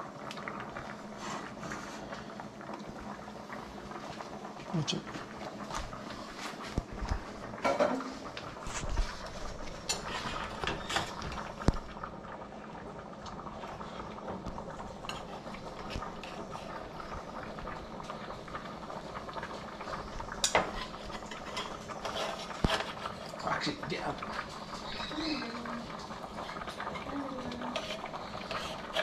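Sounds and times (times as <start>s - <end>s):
stew simmering in pots: 0.0s - 29.0s.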